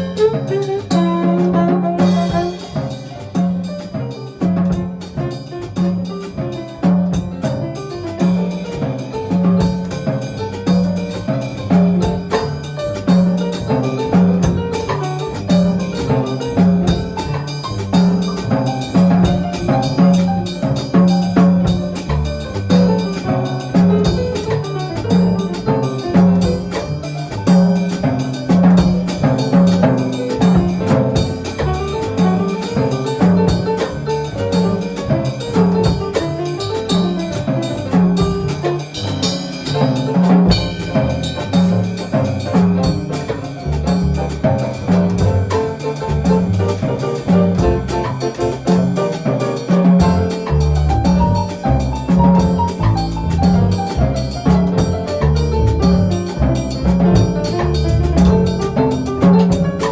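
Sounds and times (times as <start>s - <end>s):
jazz band playing: 0.0s - 59.9s.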